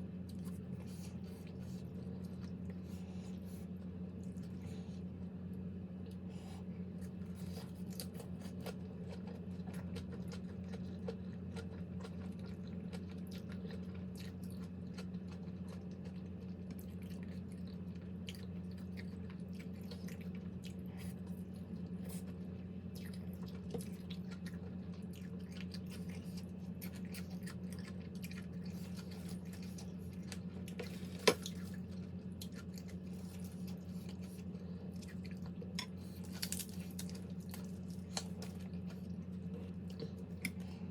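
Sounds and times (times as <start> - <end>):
steady low hum: 0.0 - 40.9
person chewing: 0.2 - 5.0, 6.1 - 40.9.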